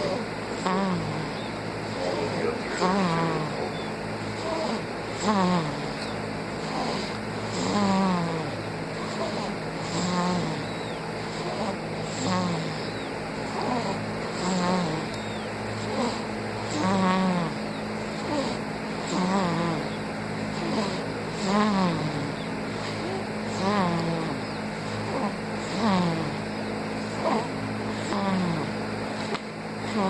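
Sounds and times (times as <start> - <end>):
baby snoring: 0.0 - 30.0
steady low hum: 0.0 - 30.0.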